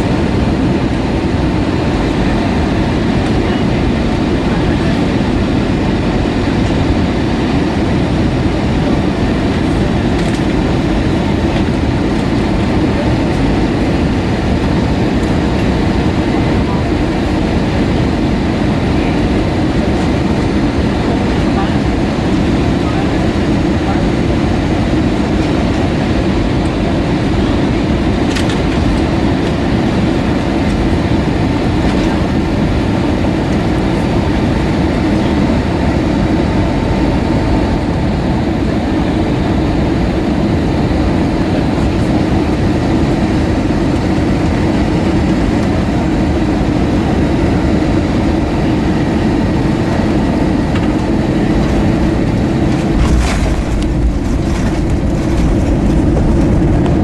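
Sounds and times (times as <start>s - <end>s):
jet engine and airflow roar: 0.0s - 57.0s.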